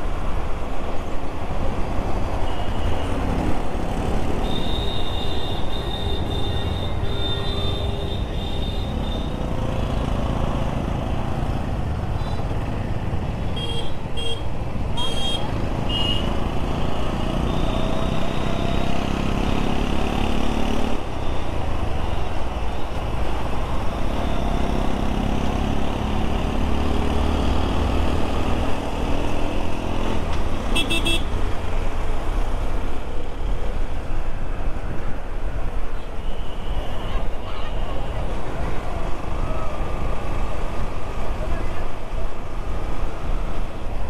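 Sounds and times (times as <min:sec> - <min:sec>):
traffic: 0:00.0 - 0:44.0.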